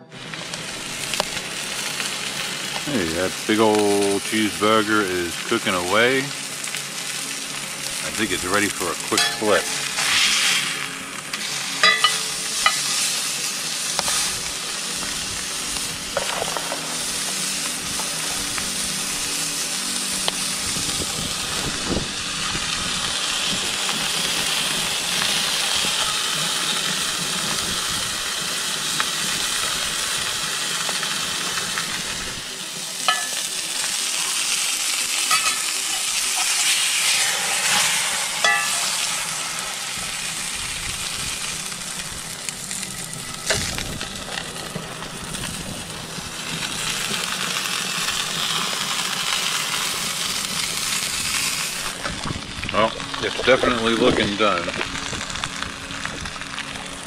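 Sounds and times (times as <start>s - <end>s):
patty sizzling in a pan: 0.0s - 57.0s.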